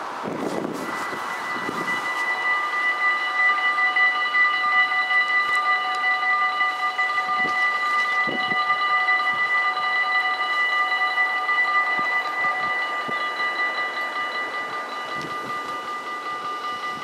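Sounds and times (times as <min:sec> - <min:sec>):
level crossing bells ringing: 0:00.5 - 0:17.0.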